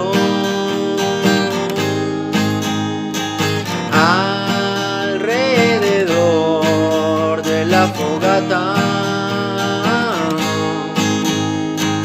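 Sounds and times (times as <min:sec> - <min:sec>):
strummed acoustic guitar chords: 0:00.0 - 0:12.0.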